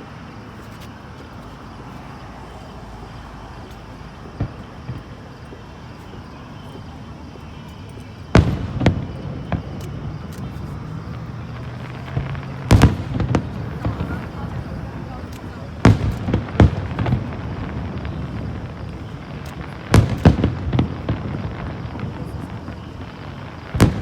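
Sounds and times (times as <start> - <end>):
fireworks crackles: 0.0 - 24.0
fireworks bangs: 3.2 - 24.0.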